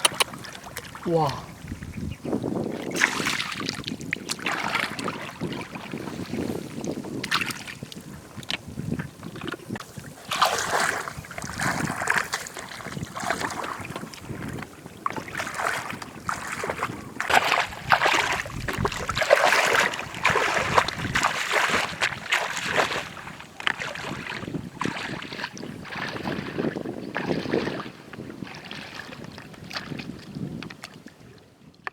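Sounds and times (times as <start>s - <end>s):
water splashing and sloshing: 0.0s - 31.9s.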